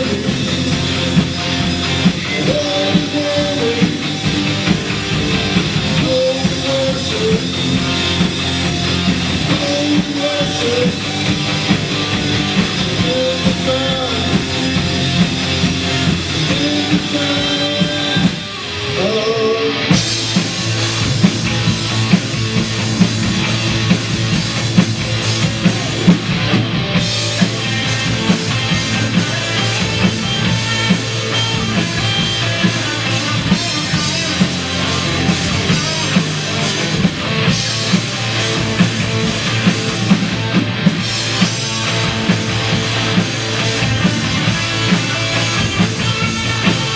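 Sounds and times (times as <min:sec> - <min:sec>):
bending guitar melody: 0:00.0 - 0:46.9
rock band playing: 0:00.0 - 0:46.9.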